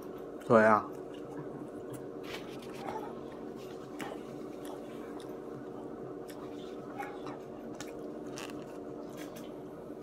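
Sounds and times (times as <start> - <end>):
person chewing food: 0.0 - 9.7
steady background hum: 0.0 - 10.0.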